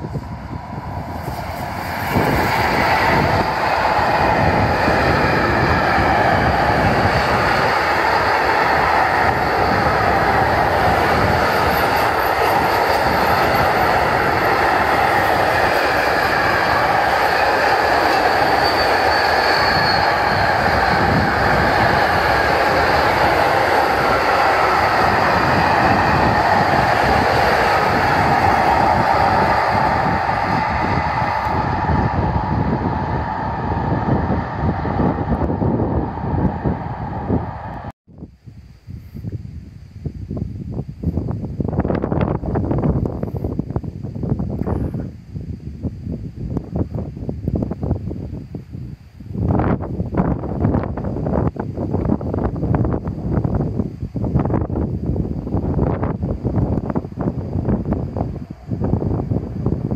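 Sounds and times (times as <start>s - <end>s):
freight train wheels on rail: 0.0s - 38.0s, 41.1s - 59.9s.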